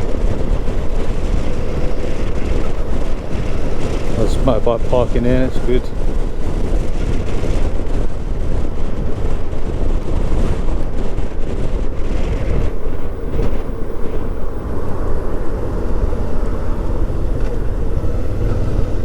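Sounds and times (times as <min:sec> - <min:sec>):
motorcycle engine: 0:00.0 - 0:19.0
wind rumble: 0:00.0 - 0:19.0.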